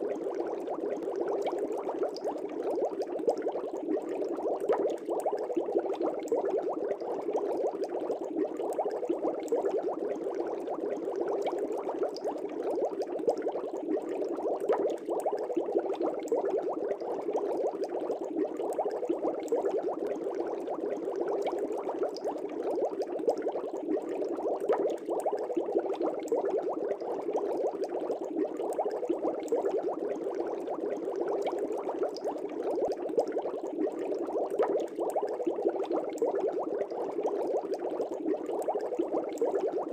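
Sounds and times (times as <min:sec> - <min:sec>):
aquarium air bubbles burbling: 0:00.0 - 0:39.9.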